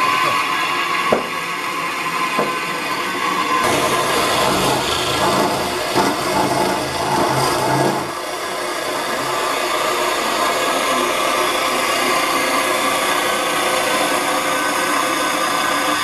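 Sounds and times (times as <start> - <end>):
electric coconut grater running: 0.0 - 16.0.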